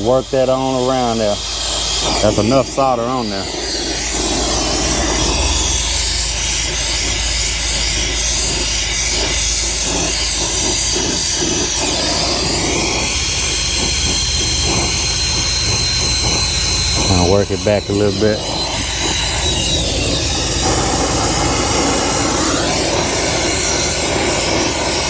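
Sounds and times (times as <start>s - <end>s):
brazing torch flame hissing: 0.0s - 25.0s.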